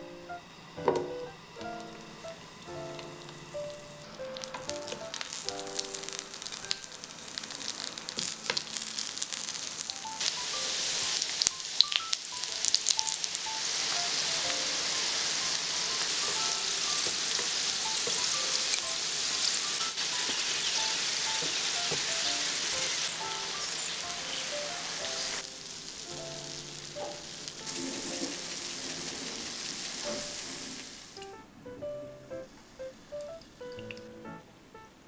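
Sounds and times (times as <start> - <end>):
potato wedges frying: 0.2 - 31.4
butter and oil sizzling in pan: 0.6 - 31.2.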